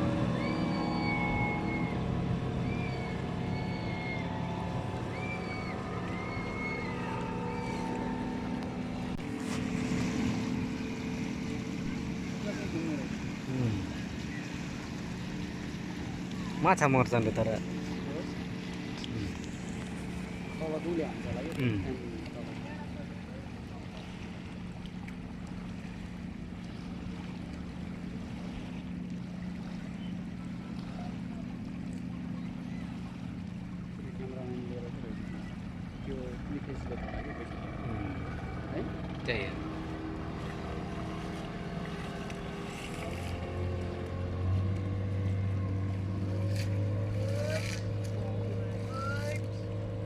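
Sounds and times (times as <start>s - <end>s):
boat engine running: 0.0s - 50.0s
water rushing around hull: 0.0s - 50.0s.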